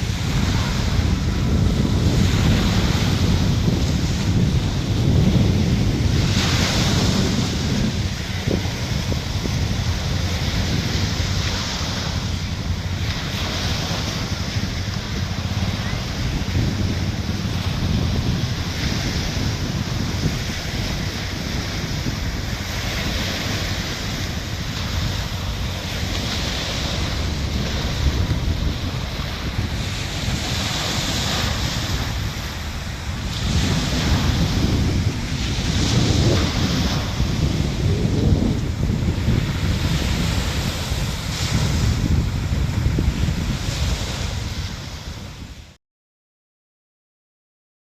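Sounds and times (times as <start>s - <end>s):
sea waves washing onto shore: 0.0s - 45.8s
wind buffeting microphone: 0.0s - 45.8s.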